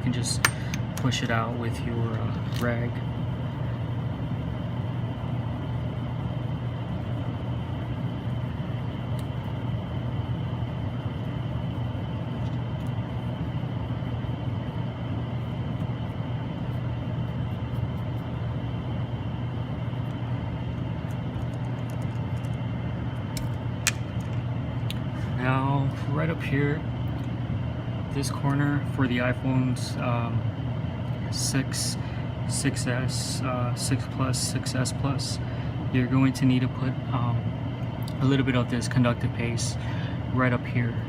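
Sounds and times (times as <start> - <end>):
machinery humming: 0.0 - 41.0.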